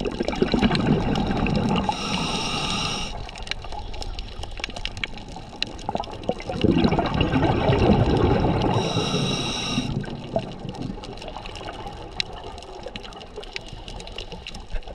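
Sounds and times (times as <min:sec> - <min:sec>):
underwater breath bubbling: 0:00.0 - 0:12.0.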